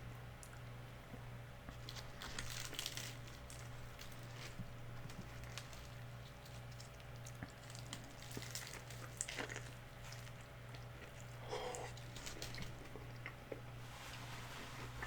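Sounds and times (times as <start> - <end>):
person chewing crunchy food: 1.7 - 13.8.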